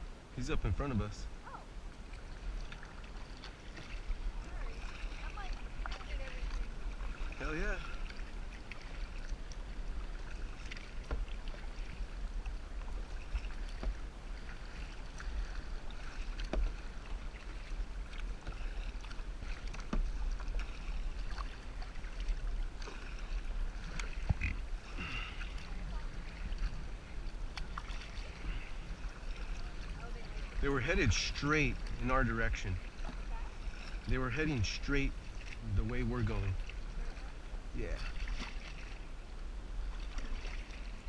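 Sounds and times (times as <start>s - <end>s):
paddle splashes and drips: 1.4s - 41.0s.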